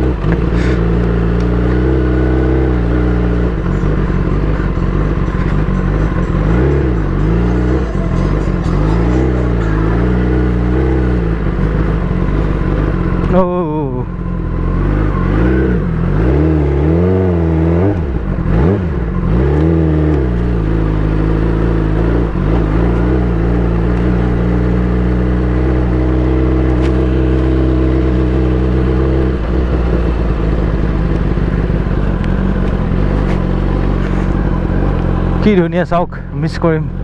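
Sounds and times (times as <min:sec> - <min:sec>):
motorcycle engine with loud exhaust: 0:00.0 - 0:37.0.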